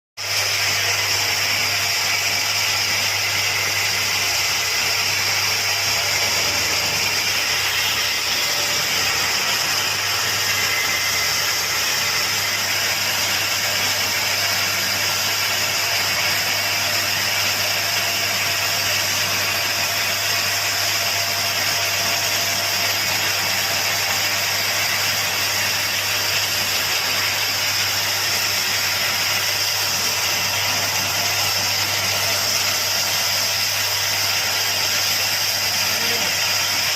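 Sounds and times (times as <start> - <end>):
woodworking machine running: 0.2 - 36.9.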